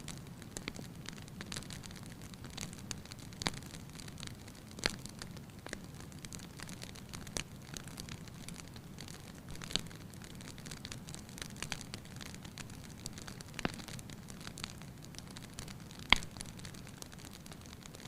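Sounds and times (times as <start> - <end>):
fire snapping: 0.0 - 18.0
wood fire crackling: 0.0 - 18.0.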